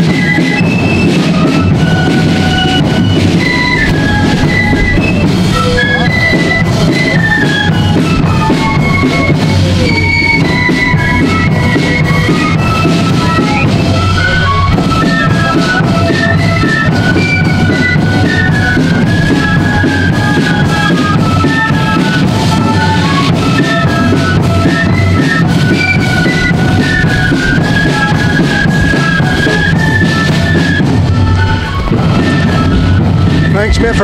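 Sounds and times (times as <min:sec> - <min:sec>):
flute melody: 0:00.0 - 0:34.0
march drum beat: 0:00.0 - 0:34.0.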